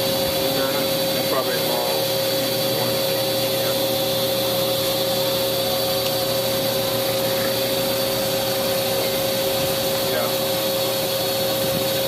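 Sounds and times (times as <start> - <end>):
lathe machine whine: 0.0 - 12.0.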